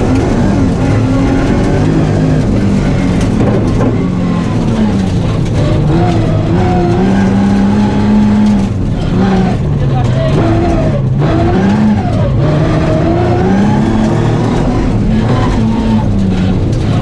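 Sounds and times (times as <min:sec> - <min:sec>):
car engine revving through gears: 0:00.0 - 0:17.0.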